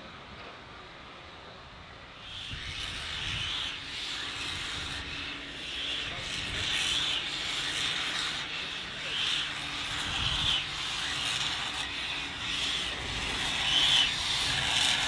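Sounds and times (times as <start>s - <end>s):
steam locomotive hissing: 0.5s - 15.0s.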